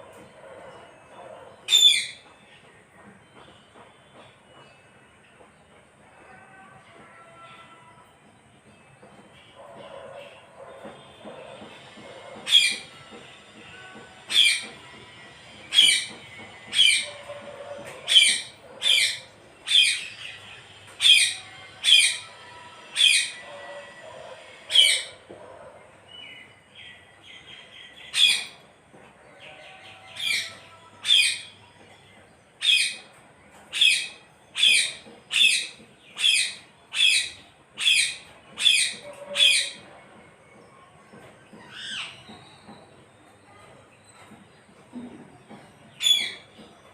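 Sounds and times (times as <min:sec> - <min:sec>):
soft parrot chatter: 0:09.1 - 0:46.9.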